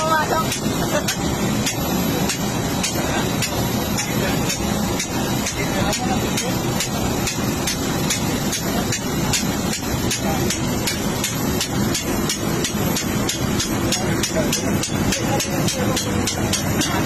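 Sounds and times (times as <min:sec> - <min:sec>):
engine fan clattering: 0:00.0 - 0:17.0.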